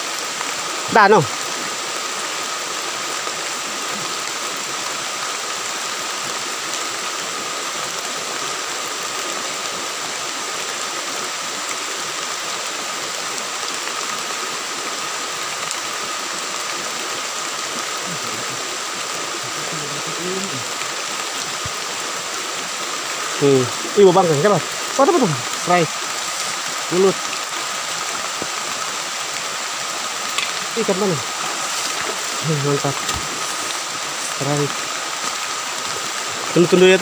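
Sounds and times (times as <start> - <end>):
stream water rushing over rocks: 0.0 - 37.0.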